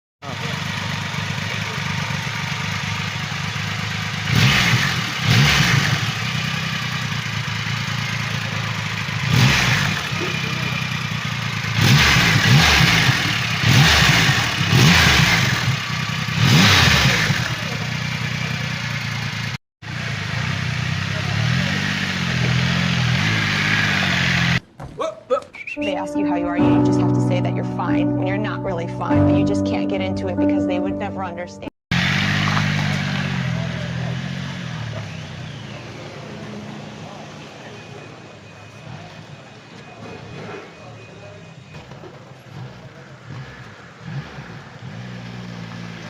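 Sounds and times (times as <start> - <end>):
motorcycle engine idling and revving: 0.2 - 24.6, 31.9 - 46.0.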